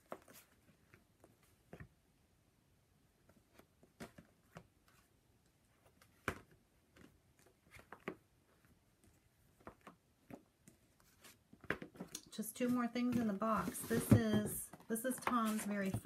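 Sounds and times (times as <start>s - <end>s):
paper books tapping and rustling: 0.0s - 1.9s, 3.2s - 5.1s, 5.7s - 16.0s.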